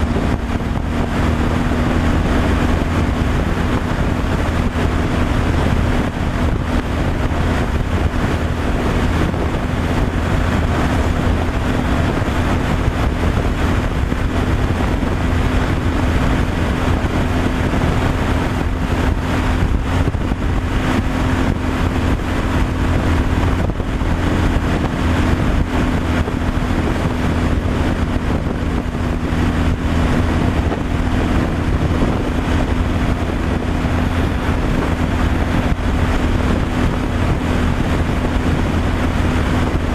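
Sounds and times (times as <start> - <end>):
road and wind noise: 0.0 - 39.9
truck engine drone: 0.0 - 39.9.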